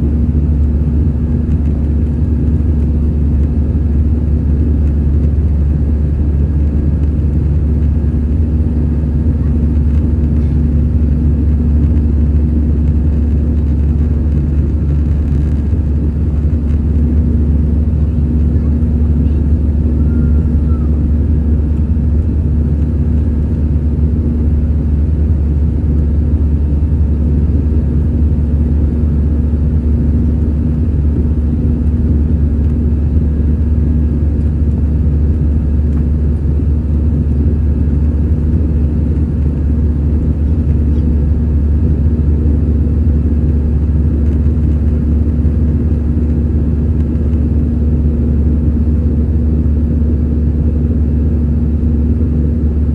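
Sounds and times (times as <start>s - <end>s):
even hum: 0.0s - 52.9s
jet engine drone in cabin: 0.0s - 52.9s.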